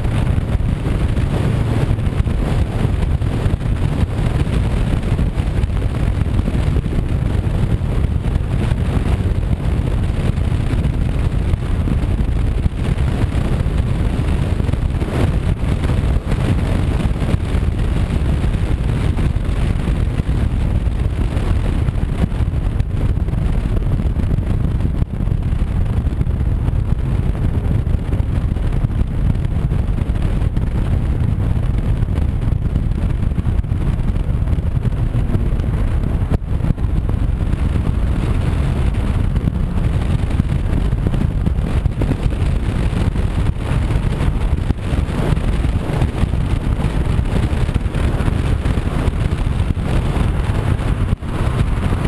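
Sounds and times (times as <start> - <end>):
motorcycle running: 0.0 - 52.0
road noise: 0.0 - 52.0
wind rumble on microphone: 0.0 - 52.0.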